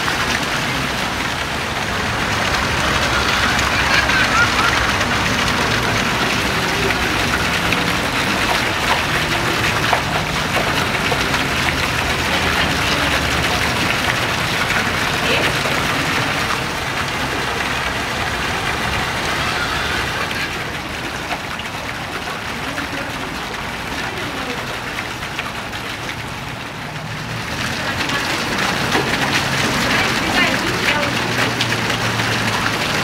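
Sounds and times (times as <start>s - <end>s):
fountain water splashing into pool: 0.0s - 33.0s.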